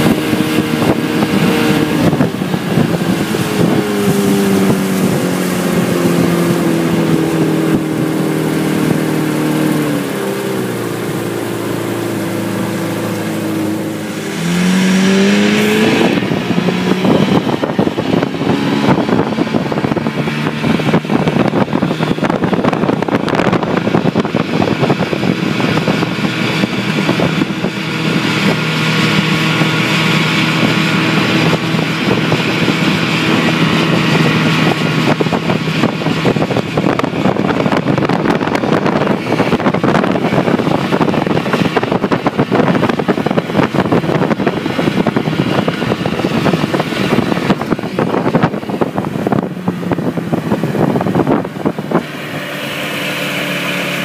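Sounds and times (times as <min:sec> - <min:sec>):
outboard motor running: 0:00.0 - 0:54.0
rushing water from wake: 0:00.0 - 0:54.0
wind buffeting microphone: 0:00.0 - 0:54.0.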